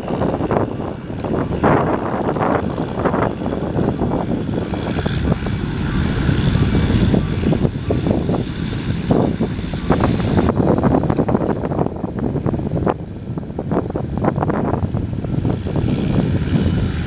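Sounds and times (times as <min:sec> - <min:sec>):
aircraft engine passing: 0:00.0 - 0:17.0
wind buffeting microphone: 0:00.0 - 0:17.0.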